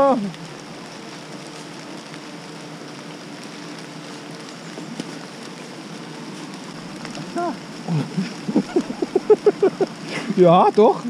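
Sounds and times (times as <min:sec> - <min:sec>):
faint steady hum: 0:00.0 - 0:11.0
rain falling: 0:00.0 - 0:11.0.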